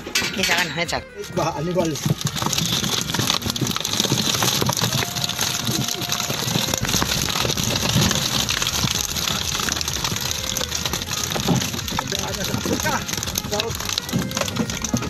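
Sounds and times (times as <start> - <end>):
water splashing: 0.0 - 15.0
fish flopping on wooden boards: 1.8 - 15.0.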